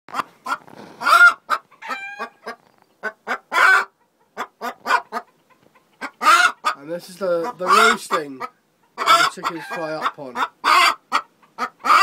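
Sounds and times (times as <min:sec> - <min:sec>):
hen clucking: 0:00.1 - 0:12.0.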